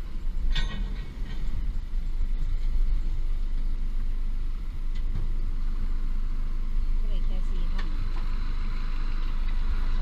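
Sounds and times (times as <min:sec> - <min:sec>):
low car engine rumble: 0:00.0 - 0:10.0.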